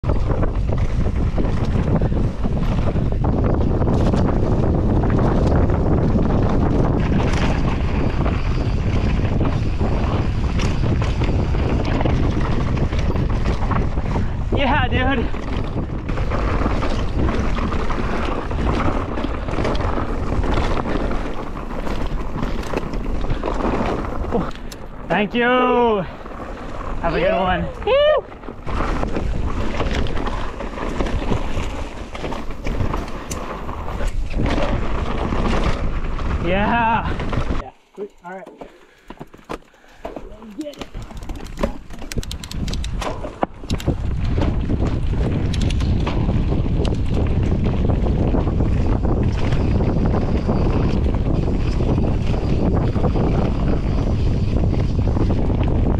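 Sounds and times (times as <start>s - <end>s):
bike tyres rolling over dirt: 0.0s - 55.9s
wind buffeting microphone: 0.0s - 55.9s
bike clicks and knocks: 0.1s - 14.3s, 15.3s - 24.9s, 28.3s - 36.4s, 37.1s - 52.6s.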